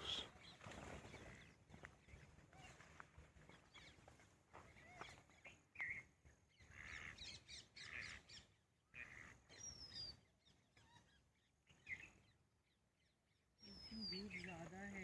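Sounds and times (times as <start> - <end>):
bird chirps: 0.0 - 4.0, 4.7 - 12.5, 13.1 - 15.0.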